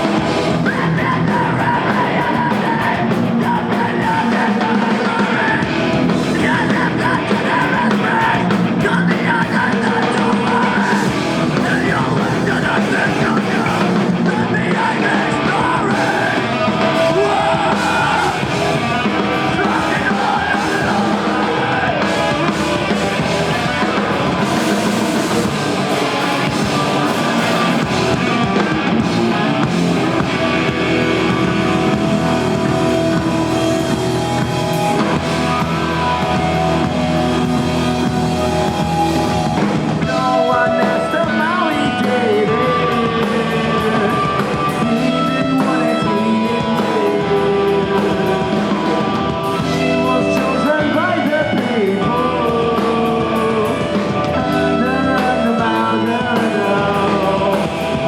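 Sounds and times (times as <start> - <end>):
electric guitar: 0.0 - 58.0
person singing: 0.0 - 58.0
rock band playing live: 0.0 - 58.0.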